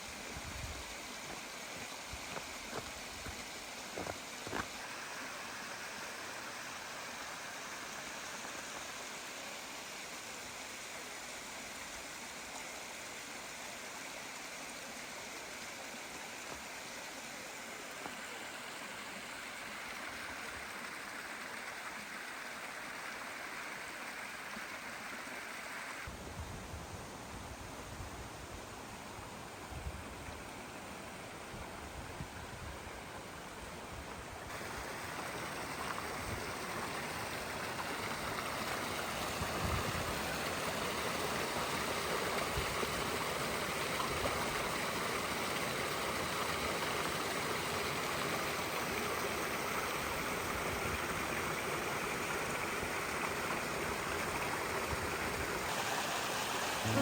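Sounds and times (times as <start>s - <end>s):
stream running over rocks: 0.0s - 26.2s, 28.4s - 57.0s.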